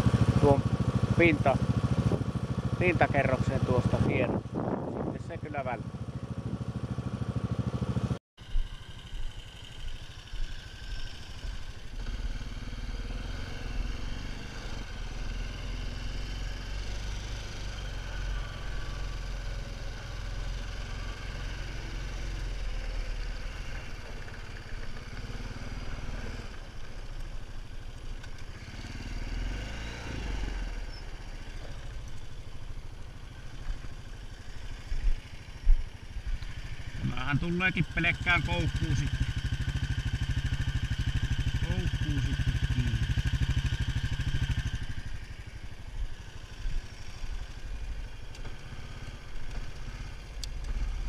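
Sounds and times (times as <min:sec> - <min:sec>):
quad bike engine running: 0:00.0 - 0:51.0.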